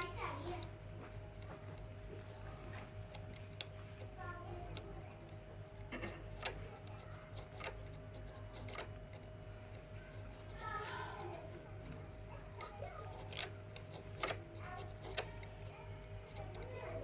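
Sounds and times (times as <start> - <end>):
comb clicking on metal fins: 0.0 - 17.0
low steady hum: 0.0 - 17.0.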